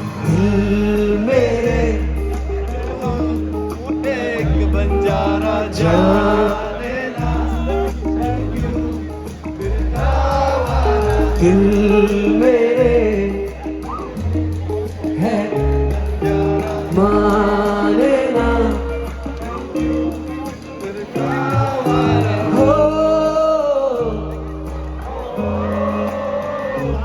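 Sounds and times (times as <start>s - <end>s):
drums: 0.0s - 27.0s
guitar: 0.0s - 27.0s
held bass notes: 0.0s - 27.0s
person singing: 0.0s - 27.0s
rock band playing live: 0.0s - 27.0s.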